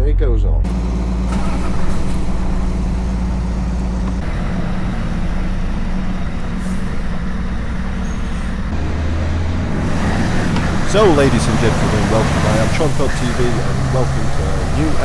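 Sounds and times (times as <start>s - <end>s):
vehicle engine humming: 0.6s - 15.0s.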